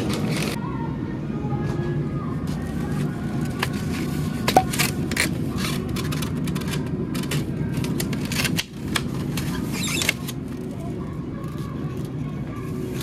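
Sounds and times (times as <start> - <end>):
refrigerated case humming: 0.0 - 13.0.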